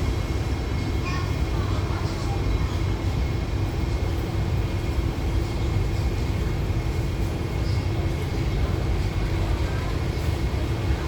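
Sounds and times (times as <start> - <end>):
train carriage hum and rumble: 0.0 - 11.0.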